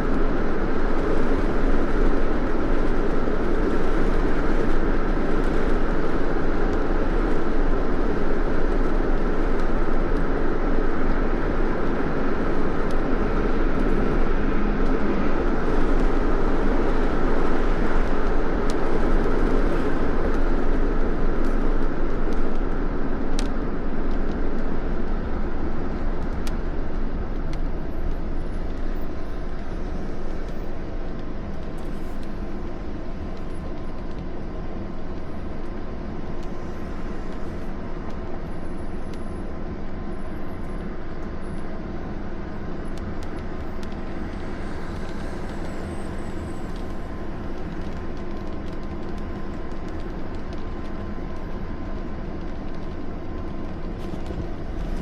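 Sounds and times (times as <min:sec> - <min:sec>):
vehicle road and engine noise: 0:00.0 - 0:55.0.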